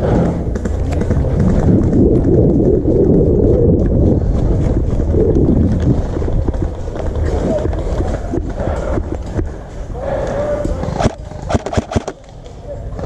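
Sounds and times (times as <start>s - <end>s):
running footsteps: 0.0s - 12.6s
wind rumble on microphone: 0.0s - 13.0s.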